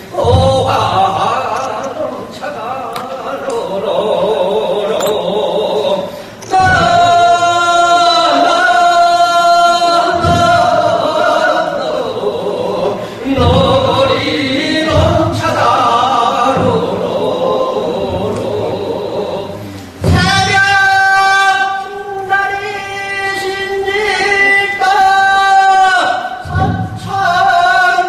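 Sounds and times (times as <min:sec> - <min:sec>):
men singing long held notes: 0:00.0 - 0:28.0.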